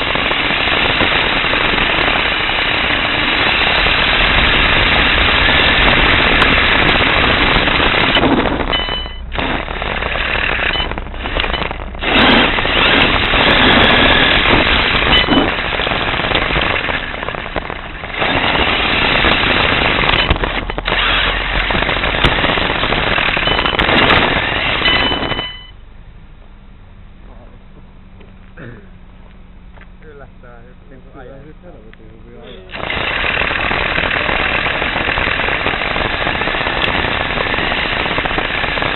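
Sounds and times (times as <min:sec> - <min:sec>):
rc car rattling over pavement: 0:00.0 - 0:25.6, 0:32.6 - 0:38.9.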